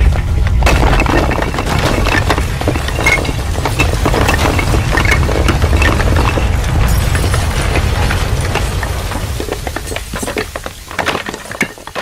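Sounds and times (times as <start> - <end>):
deep earthquake rumble: 0.0 - 11.1
debris crackling and clattering: 0.0 - 12.0.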